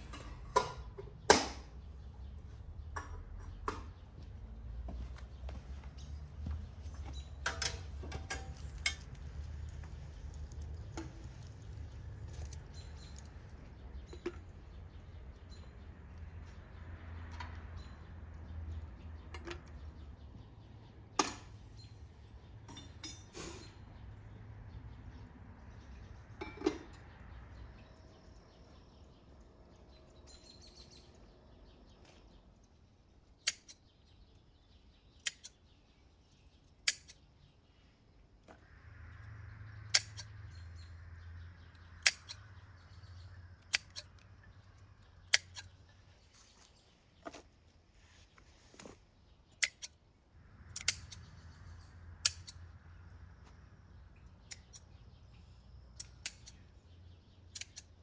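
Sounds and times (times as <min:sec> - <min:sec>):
faint birds chirping: 0:00.0 - 0:58.0.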